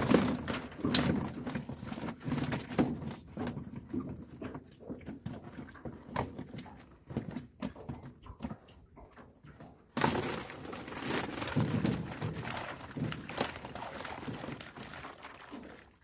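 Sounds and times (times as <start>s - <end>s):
fish splashing and thrashing: 0.0s - 16.0s.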